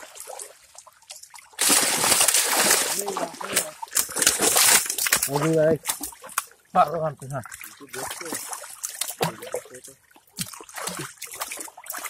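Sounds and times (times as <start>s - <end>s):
fish splashing in a net: 0.0s - 6.5s, 7.4s - 12.0s.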